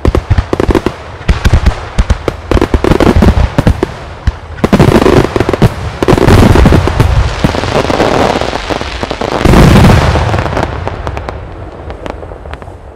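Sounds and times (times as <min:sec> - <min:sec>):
fireworks bangs: 0:00.0 - 0:12.9.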